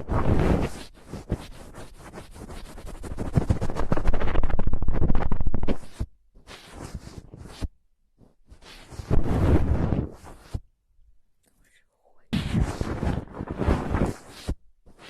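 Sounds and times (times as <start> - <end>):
rapid scratching and crackling: 0.0 - 7.7, 8.5 - 10.6, 12.4 - 15.0.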